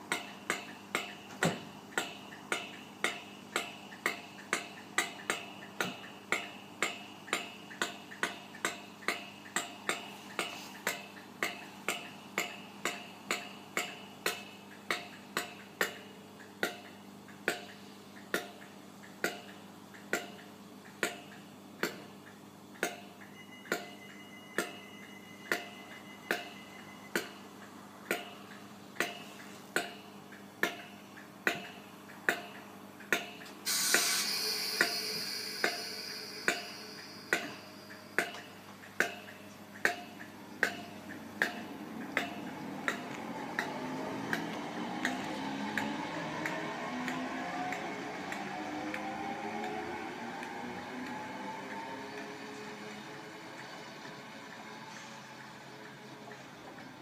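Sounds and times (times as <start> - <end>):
regular sharp clicking: 0.0 - 24.8, 25.4 - 49.8
train electrical hum: 0.0 - 57.0.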